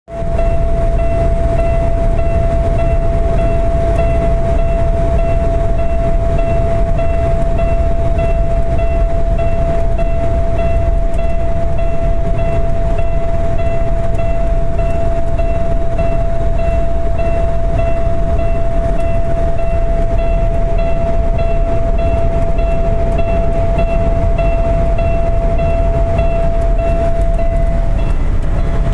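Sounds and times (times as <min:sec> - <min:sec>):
continuous low rumble: 0:00.1 - 0:28.9
steady high-pitched whine: 0:00.1 - 0:28.9.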